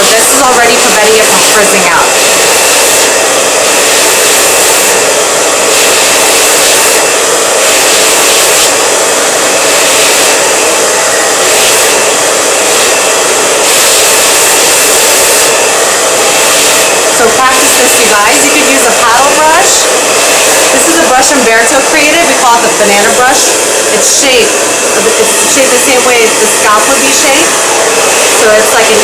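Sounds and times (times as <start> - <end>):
hair dryer blowing: 0.0 - 29.0.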